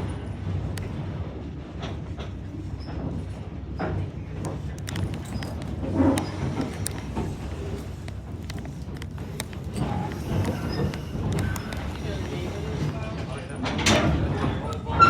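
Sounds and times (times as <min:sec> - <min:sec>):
railroad car rolling on track: 0:00.0 - 0:15.0.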